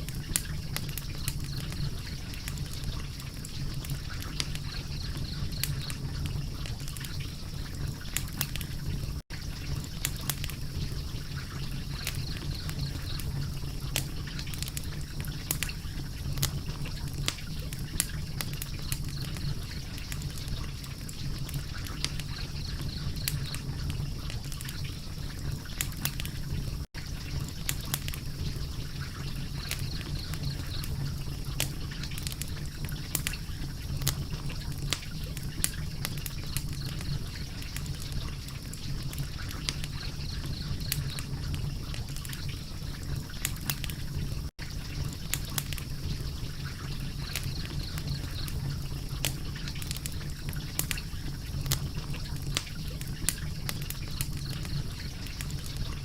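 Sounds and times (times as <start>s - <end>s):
fire crackling with snaps: 0.0s - 56.0s
low rumble and hiss: 0.0s - 56.0s.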